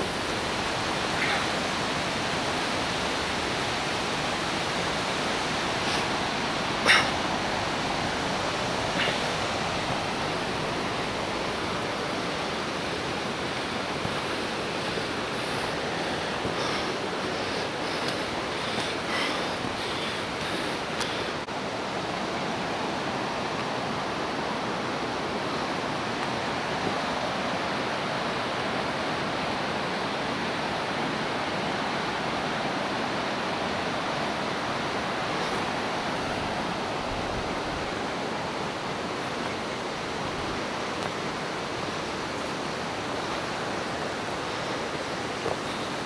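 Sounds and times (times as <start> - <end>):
fast-flowing water rushing: 0.0 - 46.0.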